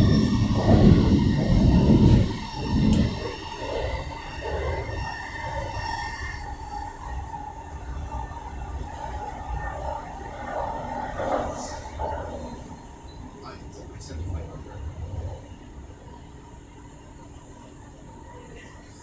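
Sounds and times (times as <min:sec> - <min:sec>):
train rumble inside carriage: 0:00.0 - 0:19.0.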